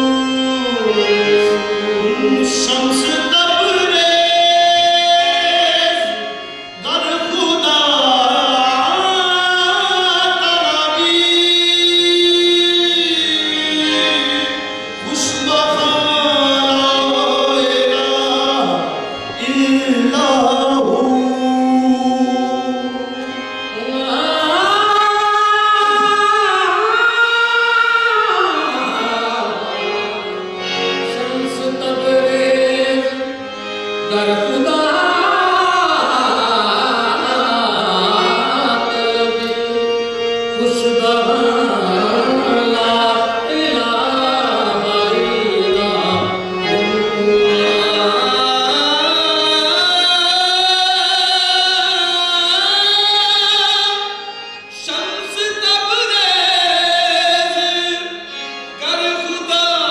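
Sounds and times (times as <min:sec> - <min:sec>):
men singing long gliding phrases: 0:00.0 - 0:33.2, 0:34.1 - 0:39.9, 0:40.5 - 0:54.1
instrumental accompaniment: 0:00.0 - 0:59.9.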